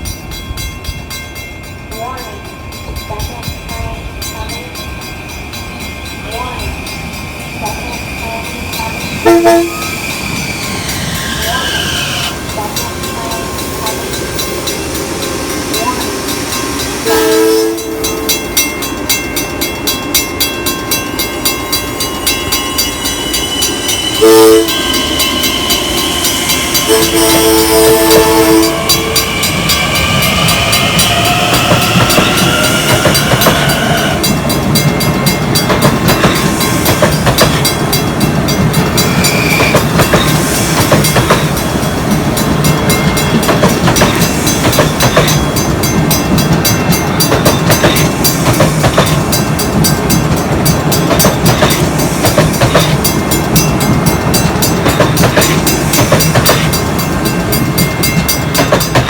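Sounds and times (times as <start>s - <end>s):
train wheels clicking over rail joints: 5.6s - 59.0s.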